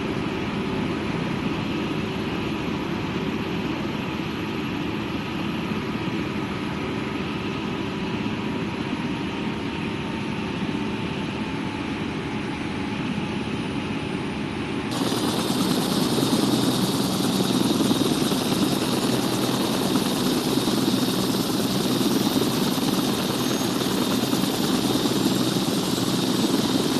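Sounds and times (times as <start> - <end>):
helicopter turbine and rotor rumble: 0.0 - 26.9.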